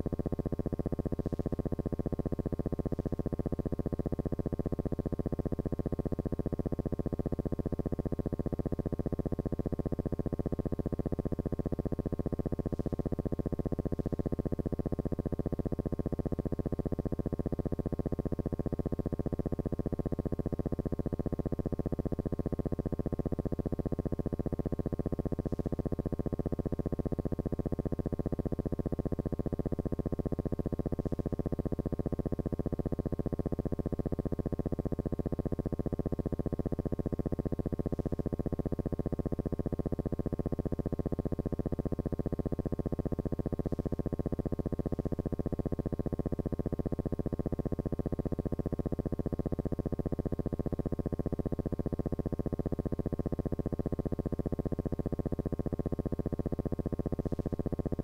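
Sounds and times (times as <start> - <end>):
electrical buzzing hum: 0.0 - 17.0, 19.2 - 47.1, 56.2 - 58.0.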